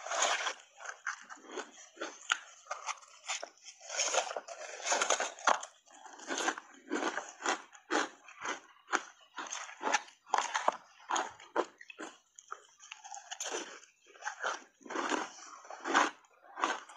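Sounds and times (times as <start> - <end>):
ice crunching while chewed: 0.0 - 16.9.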